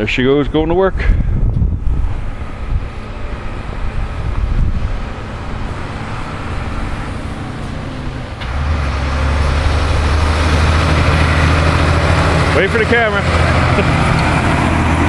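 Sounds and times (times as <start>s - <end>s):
traffic noise: 0.0s - 15.0s
low engine drone idling: 0.9s - 15.0s.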